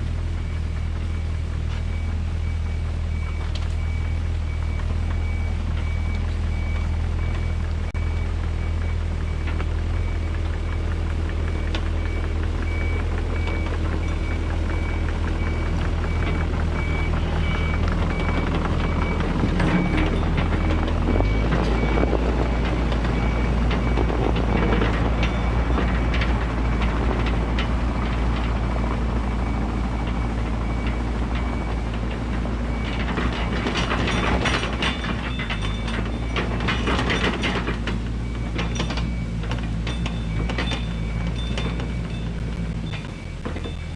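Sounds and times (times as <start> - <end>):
excavator diesel engine running: 0.0 - 43.9
travel alarm beeping: 0.2 - 43.9
metallic clanking and rattling: 8.6 - 43.9.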